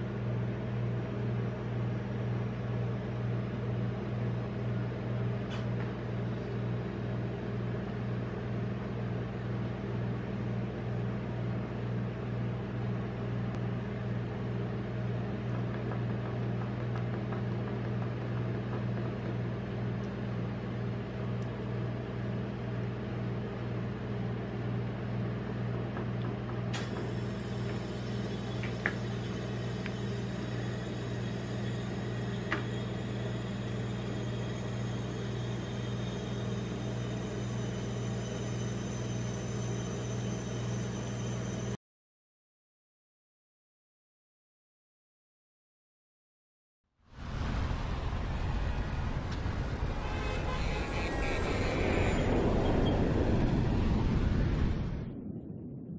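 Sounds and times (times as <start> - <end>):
refrigeration compressor humming: 0.0 - 41.8, 49.5 - 53.0.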